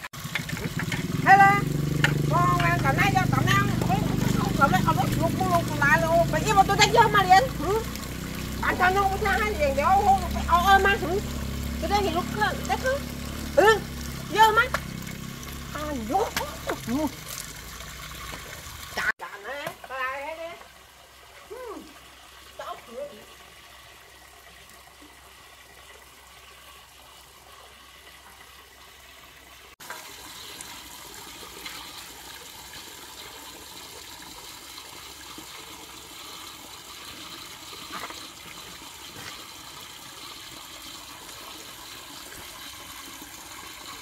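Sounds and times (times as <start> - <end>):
running water splashing: 0.0 - 44.0.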